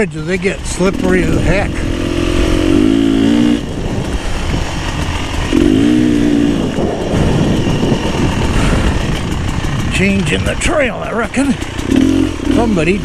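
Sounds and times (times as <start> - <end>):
dirt bike engine running: 0.0 - 13.0
wind and tyre noise: 0.0 - 13.0.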